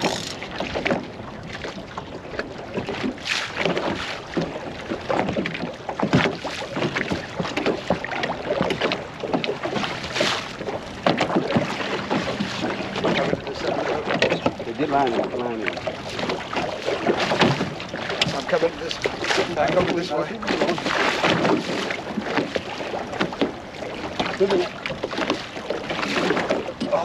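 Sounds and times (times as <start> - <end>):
faint boat motor hum: 0.0 - 27.0
water splashing against boat hull: 0.0 - 27.0.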